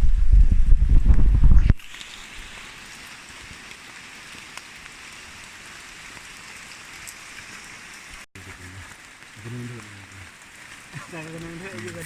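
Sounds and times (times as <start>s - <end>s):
rain falling hiss: 1.0s - 12.0s.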